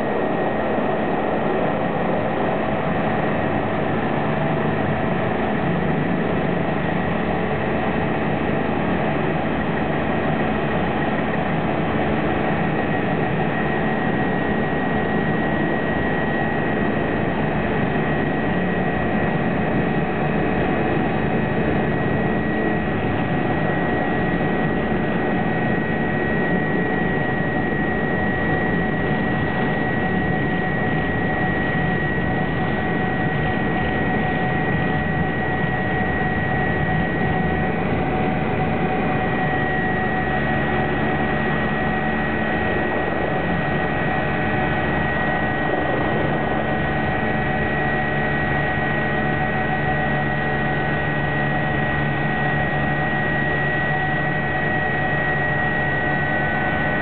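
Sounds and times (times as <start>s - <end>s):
helicopter rotor and engine noise: 0.0s - 57.0s
high turbine whine: 0.0s - 57.0s.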